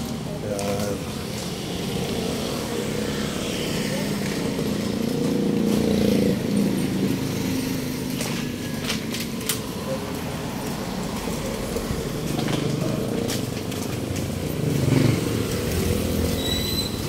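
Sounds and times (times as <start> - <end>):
vehicle engine passing close: 0.0 - 17.0.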